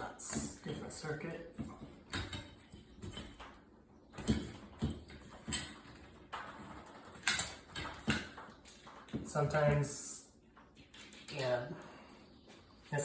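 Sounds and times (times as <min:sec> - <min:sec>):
sharp clicks and knocks: 0:00.0 - 0:11.6.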